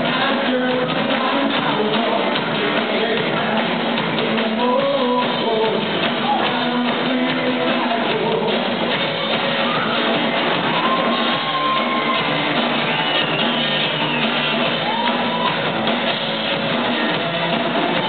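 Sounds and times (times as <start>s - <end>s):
drum kit: 0.0s - 18.0s
electric guitars: 0.0s - 18.0s.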